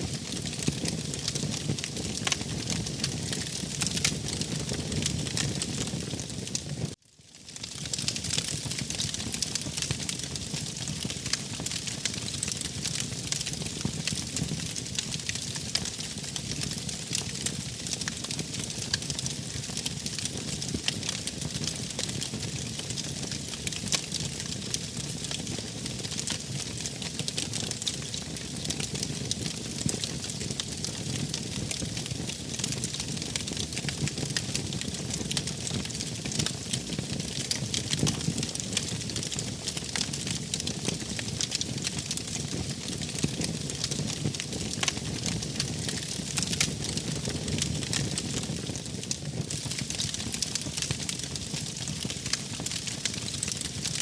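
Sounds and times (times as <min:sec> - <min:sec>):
wood fire crackling: 0:00.1 - 0:07.0, 0:07.6 - 0:54.0.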